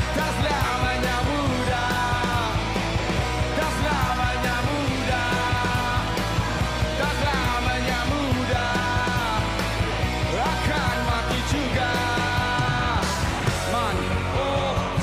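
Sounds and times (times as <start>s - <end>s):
bending melodic guitar line: 0.0s - 15.0s
rock band music: 0.0s - 15.0s.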